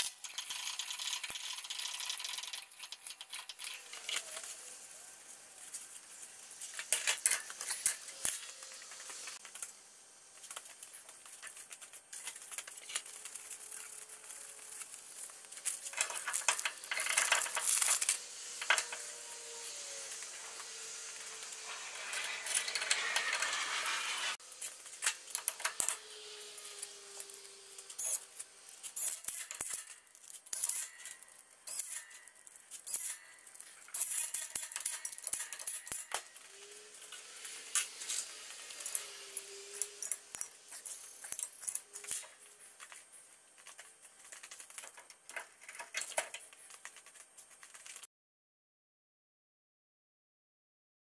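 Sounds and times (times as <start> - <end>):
metal parts clinking and scraping: 0.0 - 9.7, 10.4 - 48.0.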